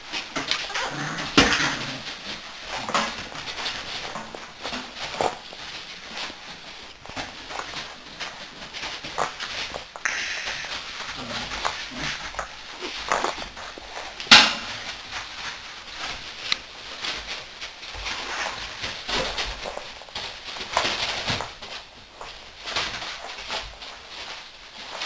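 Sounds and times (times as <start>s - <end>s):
puppies scuffling on wooden floor: 0.0s - 25.0s.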